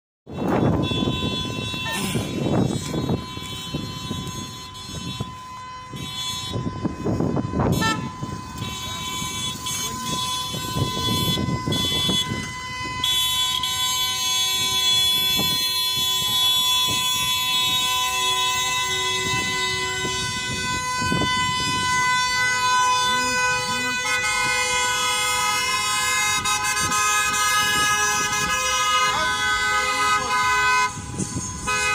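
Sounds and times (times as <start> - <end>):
taxi horns hooting: 0.3 - 31.9.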